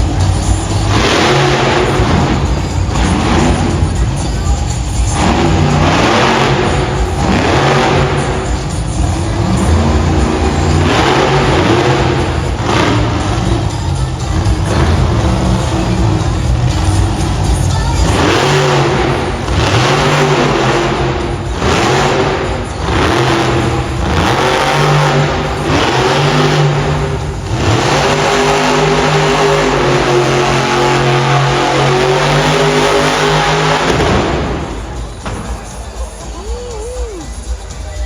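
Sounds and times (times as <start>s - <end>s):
truck engine revving: 0.0s - 36.4s.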